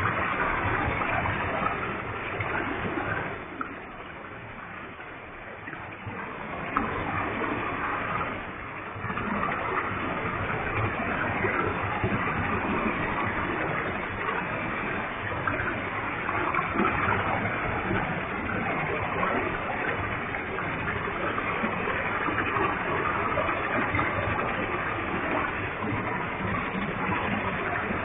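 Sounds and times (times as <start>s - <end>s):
waterfall pouring and splashing: 0.0s - 28.0s.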